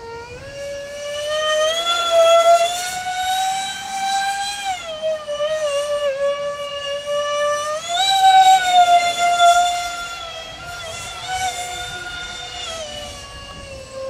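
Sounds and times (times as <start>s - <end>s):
electric fans whining: 0.0s - 14.0s.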